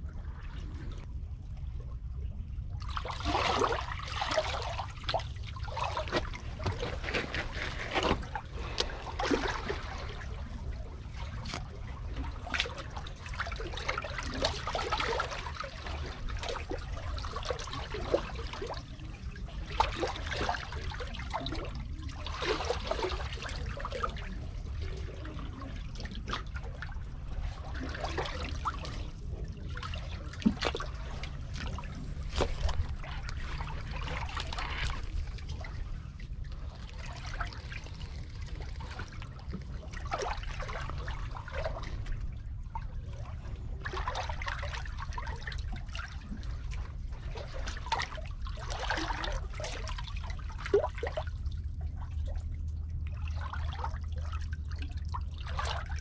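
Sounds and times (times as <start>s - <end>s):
steady low rumble: 0.0s - 56.0s
seawater sloshing between blocks: 2.7s - 56.0s.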